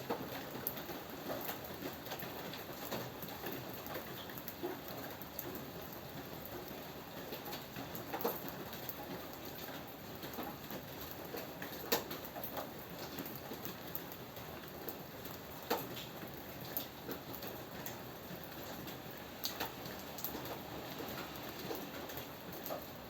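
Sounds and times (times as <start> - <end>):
close raindrops landing: 0.0 - 23.0
steady rain falling: 0.0 - 23.0.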